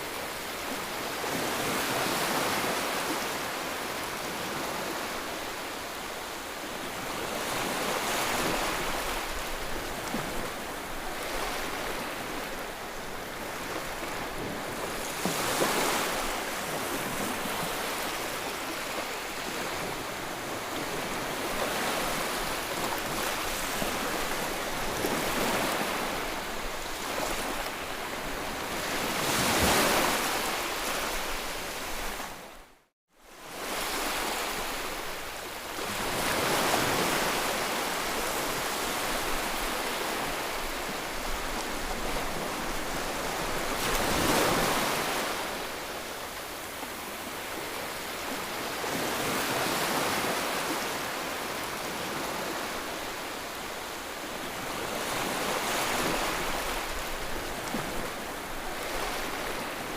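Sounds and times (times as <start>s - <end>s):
surf-like white noise hiss: 0.0s - 59.9s.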